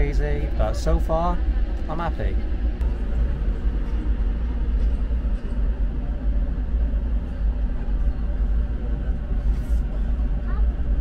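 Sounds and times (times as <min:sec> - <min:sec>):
low rumble inside train compartment: 0:00.0 - 0:11.0.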